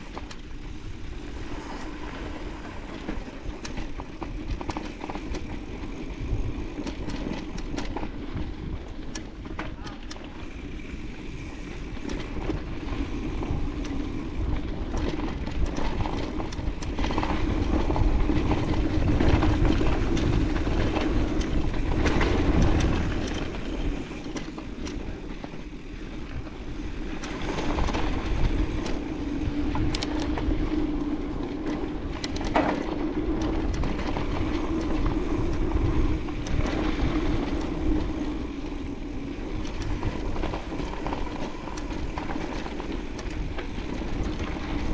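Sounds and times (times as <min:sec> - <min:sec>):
bike knocking and rattling: 0:00.0 - 0:44.9
bike tyres rolling on dirt: 0:00.0 - 0:44.9
wind rumble on microphone: 0:00.0 - 0:44.9.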